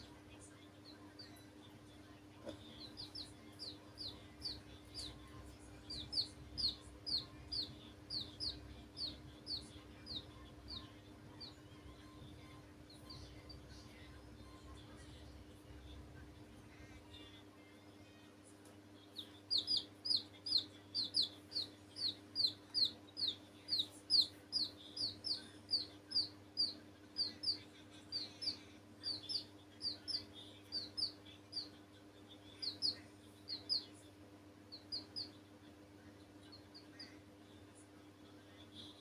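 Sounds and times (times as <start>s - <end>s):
baby chicks peeping: 0.0s - 17.4s, 18.0s - 37.8s.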